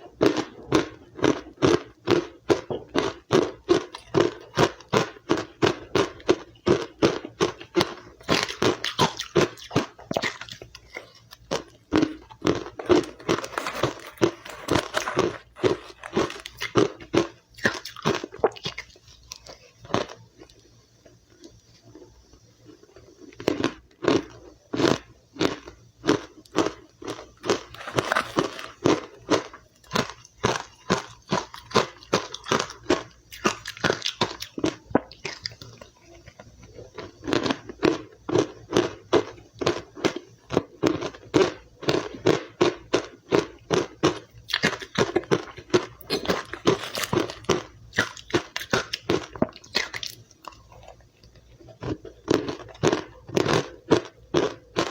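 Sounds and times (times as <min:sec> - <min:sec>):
ice being chewed: 0:00.2 - 0:20.7, 0:22.7 - 0:54.9.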